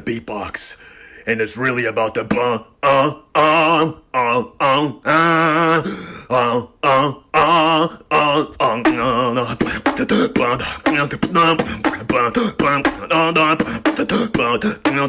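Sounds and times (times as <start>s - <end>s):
person beatboxing: 2.2s - 15.0s.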